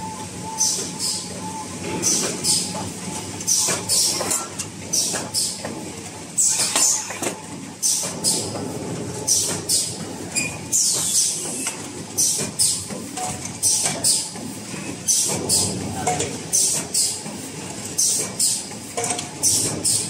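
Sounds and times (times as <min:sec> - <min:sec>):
conveyor clatter and hum: 0:00.0 - 0:20.0.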